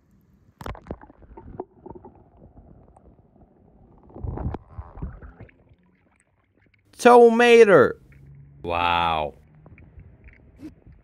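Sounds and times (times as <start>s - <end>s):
underwater rumbling and sloshing: 0.0s - 6.9s, 8.0s - 8.7s, 9.4s - 11.0s.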